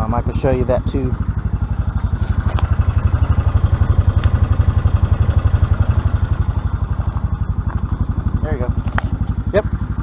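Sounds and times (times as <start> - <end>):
engine idling with rapid putter: 0.0 - 10.0.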